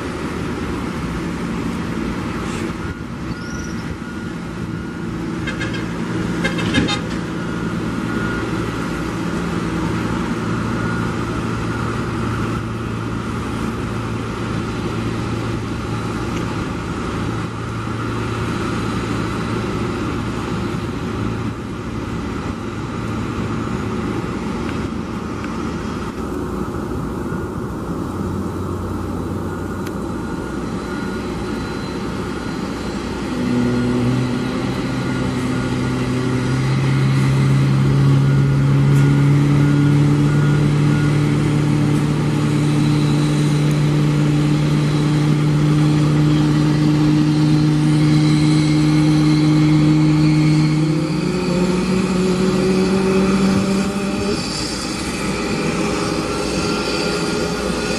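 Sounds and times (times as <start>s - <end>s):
aircraft engine hum: 0.0s - 57.9s
faint high whine: 0.8s - 57.9s.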